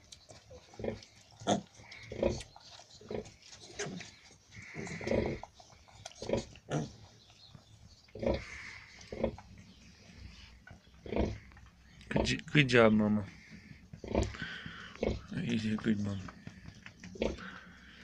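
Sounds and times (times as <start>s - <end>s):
sow grunting: 0.5s - 7.2s, 8.1s - 18.0s.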